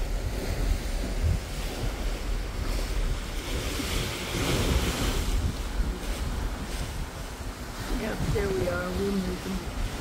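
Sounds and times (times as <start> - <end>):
sea water rushing: 0.0 - 10.0
wind buffeting microphone: 0.0 - 10.0.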